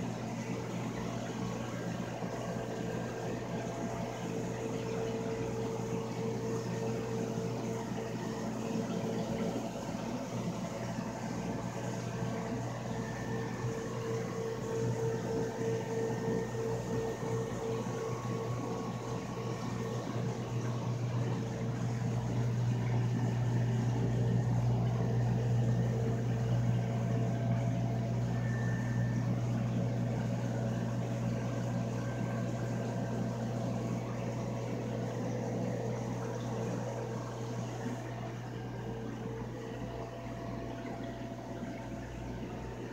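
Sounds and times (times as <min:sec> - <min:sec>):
aquarium pumps water noise: 0:00.0 - 0:42.9.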